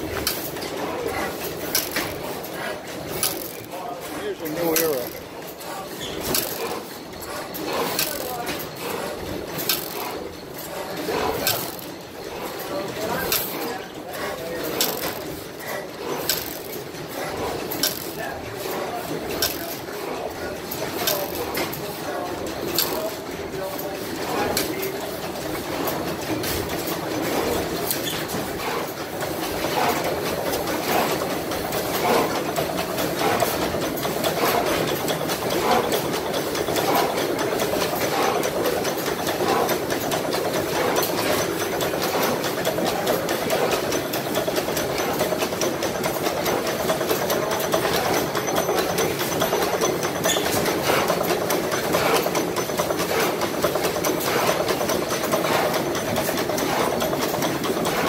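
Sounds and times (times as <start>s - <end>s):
stationary gas engines running: 0.0s - 58.0s.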